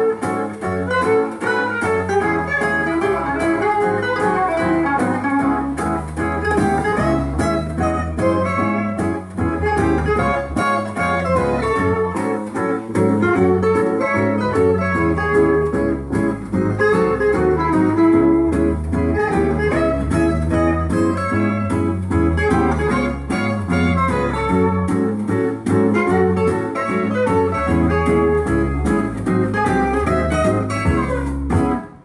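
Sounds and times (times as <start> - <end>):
guitar music from vinyl record: 0.0 - 32.0.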